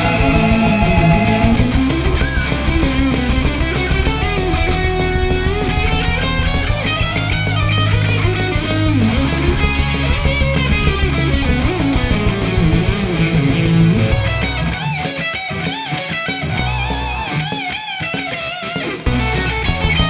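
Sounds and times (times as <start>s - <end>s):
electric guitar with vibrato: 0.0s - 20.0s
rock band playing: 0.0s - 20.0s.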